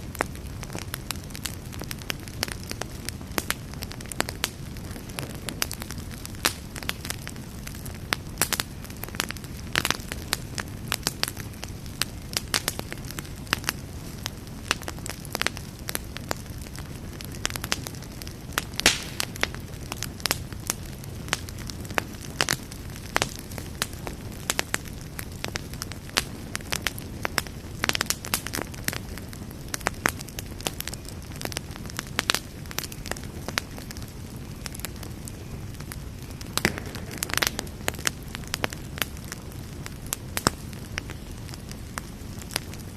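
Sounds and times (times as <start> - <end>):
burning wood crackling and popping: 0.0 - 42.9
low rumble of flames: 0.0 - 42.9.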